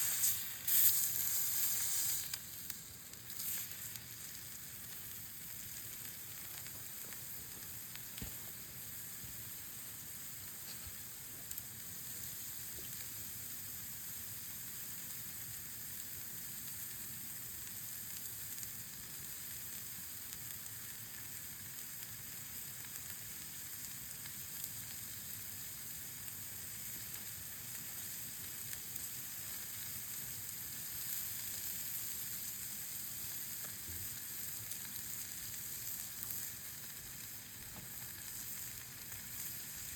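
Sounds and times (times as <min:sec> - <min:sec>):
faint fire crackles: 0:00.0 - 0:39.9
meat sizzling on a grill: 0:00.0 - 0:39.9.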